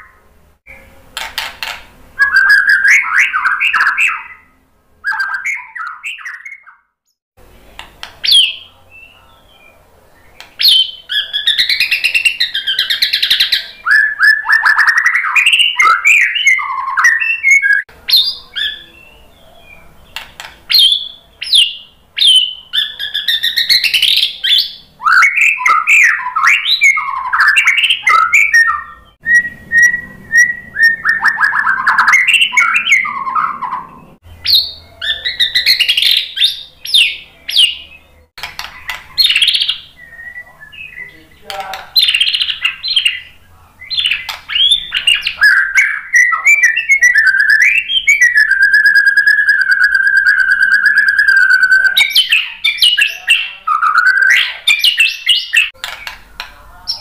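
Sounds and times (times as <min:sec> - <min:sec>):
bird singing whistles and trills: 0:02.2 - 0:06.9, 0:08.2 - 0:19.9, 0:20.7 - 0:38.2, 0:38.8 - 0:41.2, 0:42.0 - 0:55.8.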